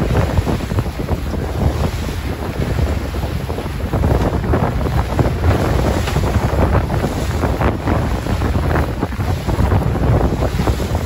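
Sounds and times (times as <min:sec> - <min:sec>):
outboard motor running: 0:00.0 - 0:11.0
water rushing past boat: 0:00.0 - 0:11.0
wind buffeting microphone: 0:00.0 - 0:11.0.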